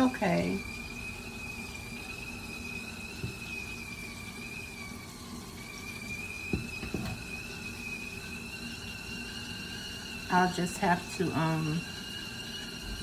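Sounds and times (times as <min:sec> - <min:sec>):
stovetop kettle whistling: 0:00.0 - 0:13.0.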